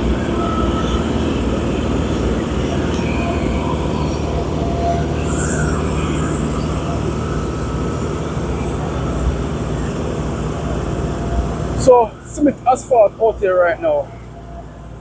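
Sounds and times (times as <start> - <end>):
heavy vehicle engines droning: 0.0 - 15.0
road noise: 0.0 - 15.0.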